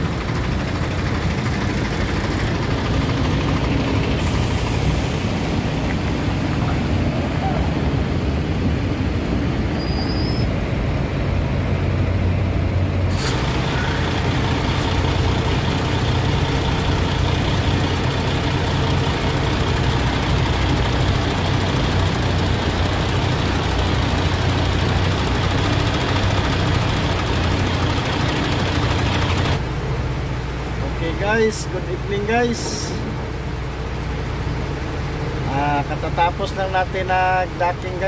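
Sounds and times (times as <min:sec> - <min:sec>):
truck diesel engine humming: 0:00.0 - 0:38.0.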